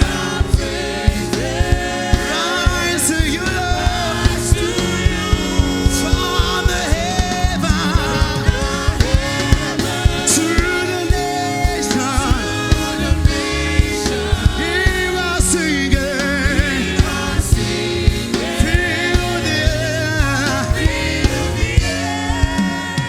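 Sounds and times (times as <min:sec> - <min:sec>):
bass line: 0:00.0 - 0:23.0
steady drum beat: 0:00.0 - 0:23.0
sustained keyboard chords: 0:00.0 - 0:23.0
voices singing with vibrato: 0:00.0 - 0:23.0.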